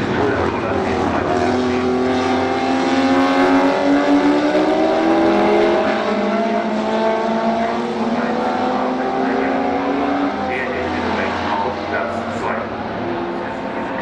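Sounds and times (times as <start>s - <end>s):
racing car engines at full throttle: 1.5s - 14.0s.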